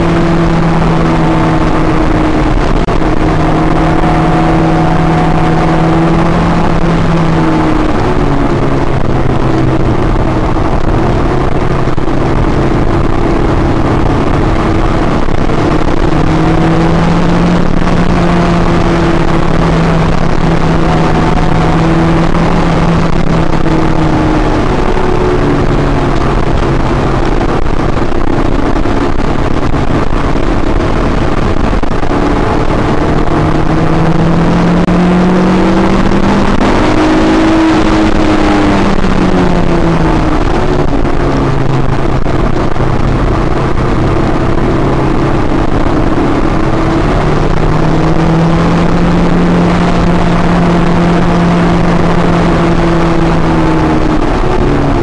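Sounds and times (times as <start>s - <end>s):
car engine running hard: 0.0s - 55.0s
wind and road noise: 0.0s - 55.0s.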